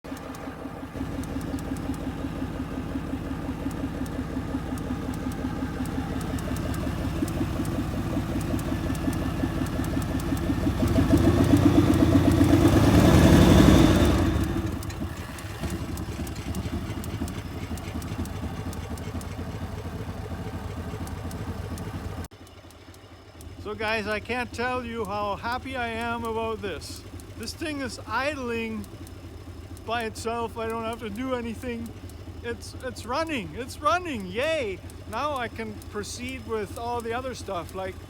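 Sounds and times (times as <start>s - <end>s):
truck engine idling: 0.0s - 38.0s.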